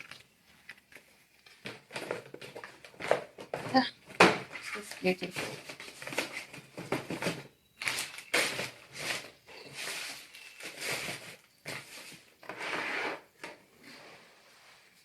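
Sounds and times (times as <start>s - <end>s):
packaging crinkling and rustling: 0.0s - 12.7s.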